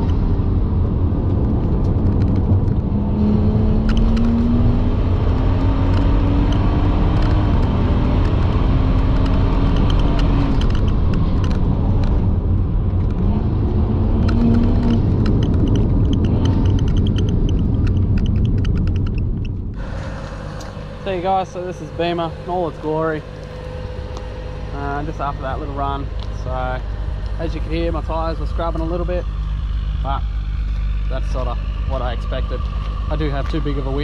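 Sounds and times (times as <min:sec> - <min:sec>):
car engine pulling hard: 0:00.0 - 0:34.0
road rumble: 0:00.0 - 0:34.0.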